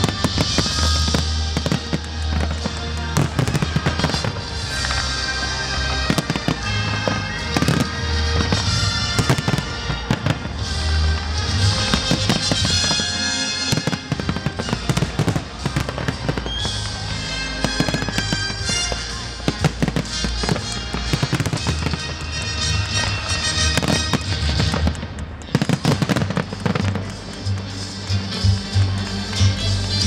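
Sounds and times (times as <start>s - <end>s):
loud music with heavy bass: 0.0s - 24.9s
fireworks bursting and crackling: 0.0s - 30.0s.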